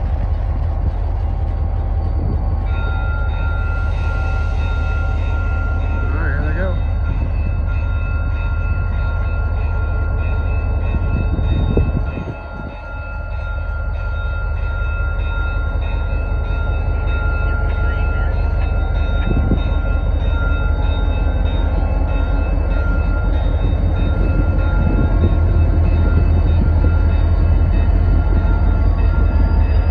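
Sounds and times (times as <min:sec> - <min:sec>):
diesel locomotive engine rumbling: 0:00.0 - 0:29.9.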